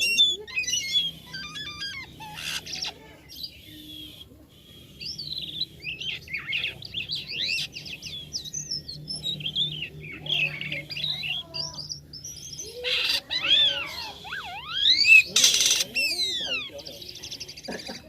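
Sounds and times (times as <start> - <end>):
starling singing chirps and whistles: 0.0 - 17.8.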